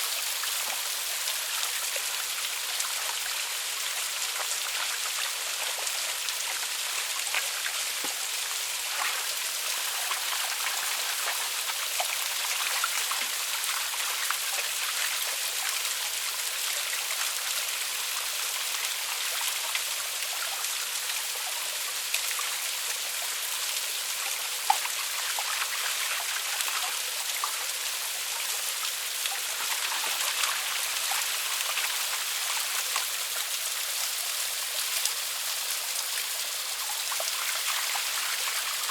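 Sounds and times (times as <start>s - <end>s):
water drips and splashes: 0.0s - 38.9s.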